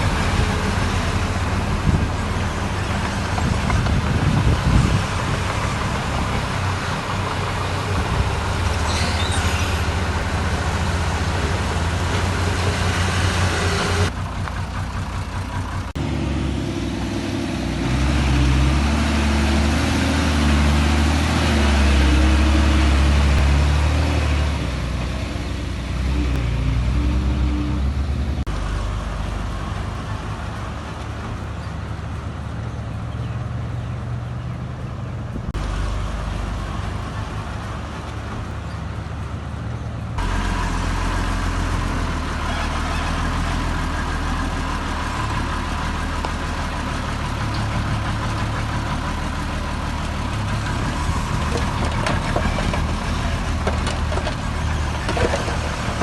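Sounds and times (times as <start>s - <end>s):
heavy diesel engines under load: 0.0s - 56.0s.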